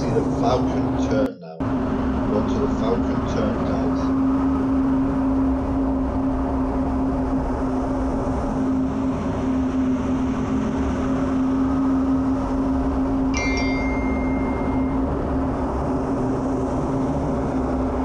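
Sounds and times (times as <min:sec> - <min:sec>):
constant hum: 0:00.0 - 0:18.0
jet engine and airflow rumble: 0:00.0 - 0:18.0.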